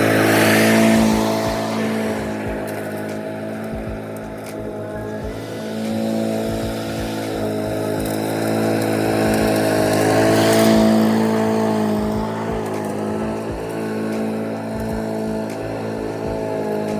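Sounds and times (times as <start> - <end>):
lawn mower engine running: 0.0 - 16.9.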